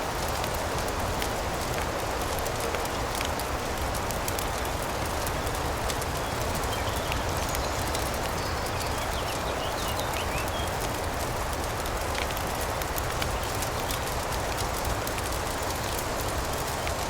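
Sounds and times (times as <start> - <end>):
fireplace crackling and popping: 0.0 - 17.0
rain hiss: 0.0 - 17.0.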